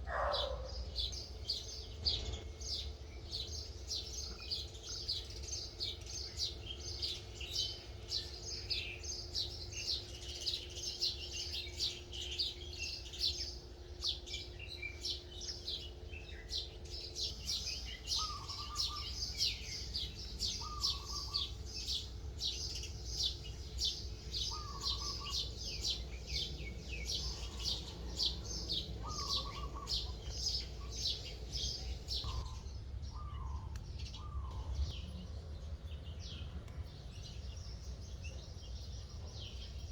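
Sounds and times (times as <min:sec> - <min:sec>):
birds chirping and twittering: 0:00.0 - 0:39.9
low steady hum: 0:00.0 - 0:39.9.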